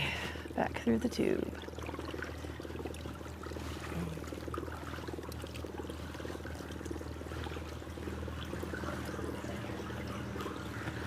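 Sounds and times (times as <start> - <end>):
steady low hum: 0.0 - 11.0
water splashing around kayak hull: 1.6 - 11.0.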